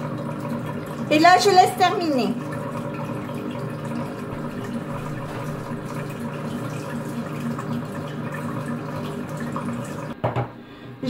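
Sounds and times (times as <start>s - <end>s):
blade churning liquid: 0.0s - 10.2s
multicooker motor humming: 0.0s - 10.2s.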